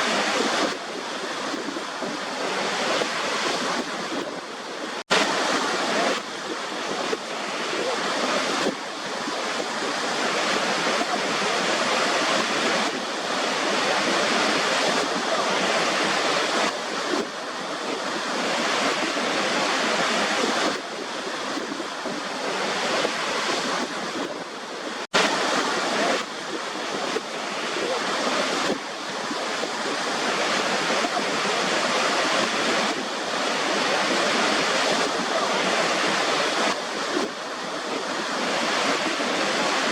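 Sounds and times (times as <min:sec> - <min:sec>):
ocean surf rushing: 0:00.0 - 0:39.9.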